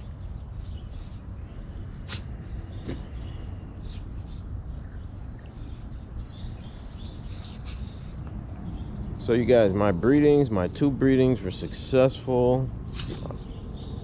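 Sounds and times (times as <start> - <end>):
insects chirring: 0.0 - 14.0
low outdoor rumble: 0.0 - 14.0.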